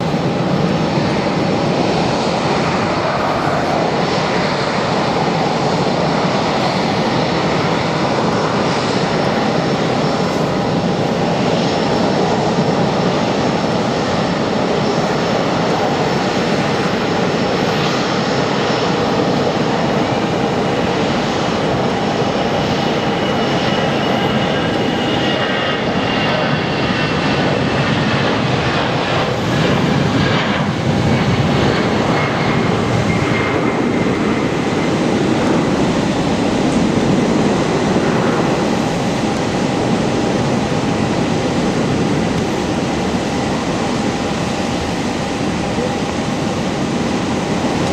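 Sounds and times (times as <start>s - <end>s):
high engine whine: 0.0s - 47.9s
jet engines at takeoff power: 0.0s - 47.9s.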